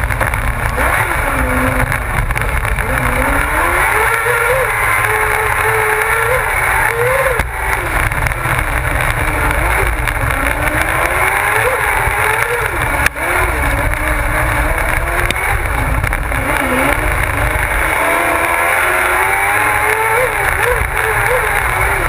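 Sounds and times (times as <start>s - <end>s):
motorcycle engine revving: 0.0s - 22.0s
wind noise: 0.0s - 22.0s.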